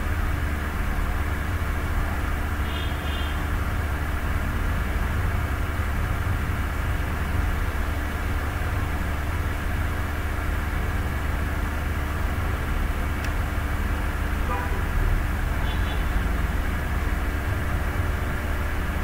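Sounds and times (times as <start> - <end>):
low machine hum with hiss: 0.0 - 19.0.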